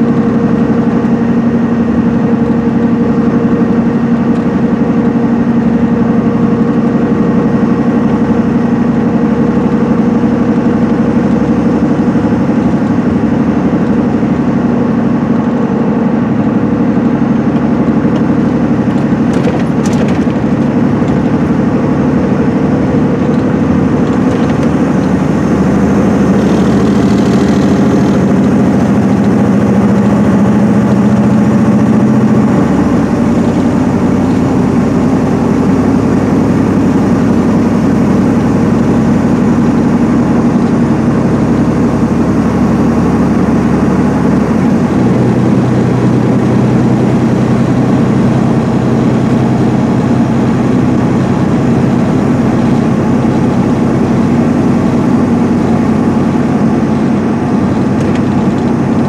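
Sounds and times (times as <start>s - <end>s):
diesel engine drone: 0.0s - 59.0s
tyre and road noise: 0.0s - 59.0s.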